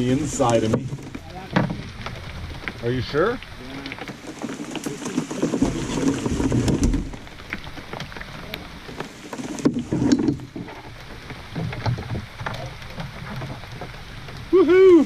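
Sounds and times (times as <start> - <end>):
heavy rain falling: 0.0 - 15.0
raindrops ticking on a boat: 0.0 - 15.0.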